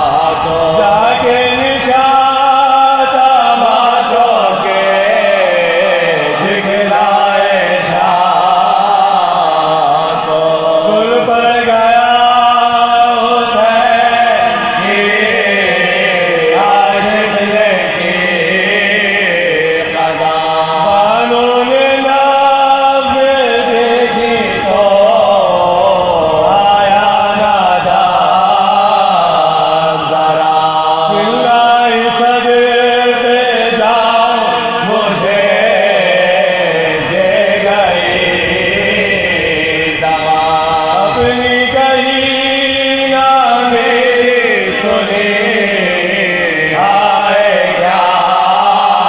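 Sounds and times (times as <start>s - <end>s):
male voices chanting a lament: 0.0s - 49.0s.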